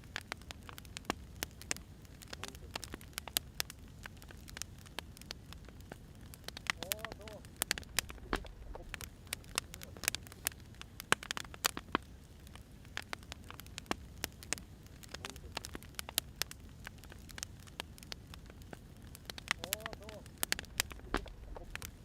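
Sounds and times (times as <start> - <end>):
low steady background noise: 0.0 - 22.0
wood fire crackling: 0.0 - 22.0.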